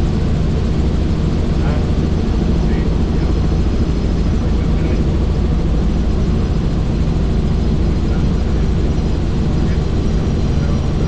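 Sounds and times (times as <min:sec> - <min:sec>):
helicopter rotor drone: 0:00.0 - 0:11.0.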